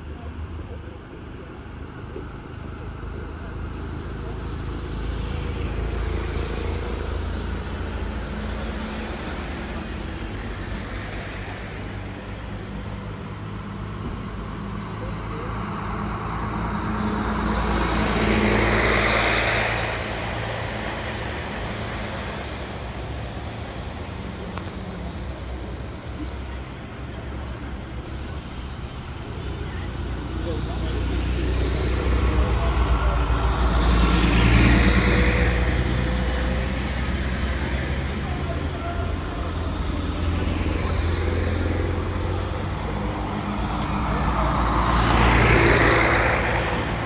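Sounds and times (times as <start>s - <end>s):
vans and buses driving past: 0.0s - 47.0s.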